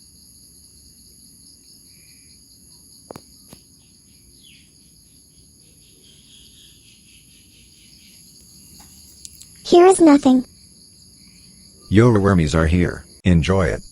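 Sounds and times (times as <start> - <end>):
crickets trilling: 0.0 - 13.9.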